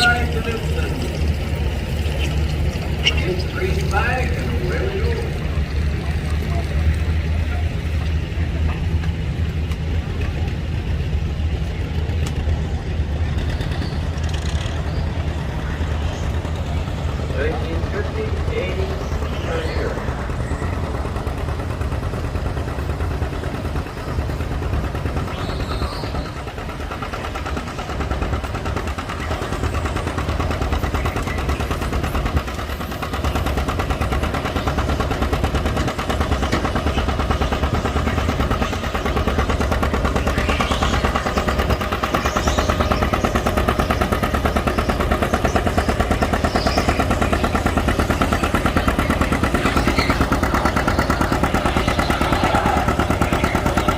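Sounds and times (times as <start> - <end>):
tractor engine under full load: 0.0 - 53.9.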